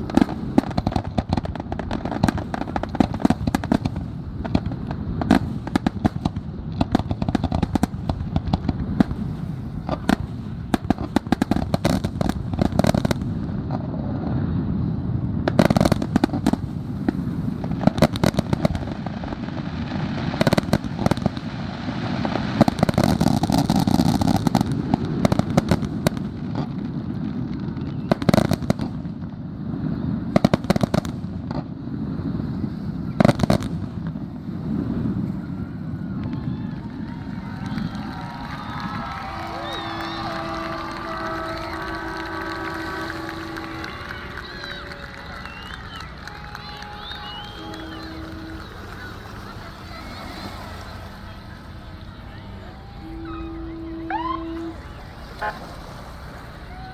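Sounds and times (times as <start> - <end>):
loud fireworks booms: 0.0 - 54.8
fireworks bursts and crackling: 0.0 - 55.6.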